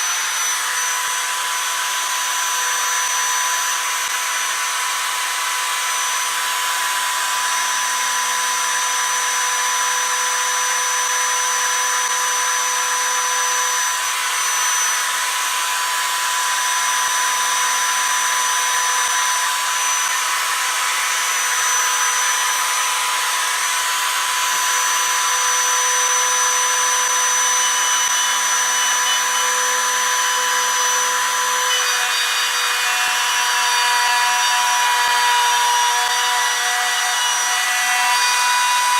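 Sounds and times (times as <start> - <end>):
saw motor whine: 0.0 - 38.9
table saw cutting wood: 0.0 - 38.9.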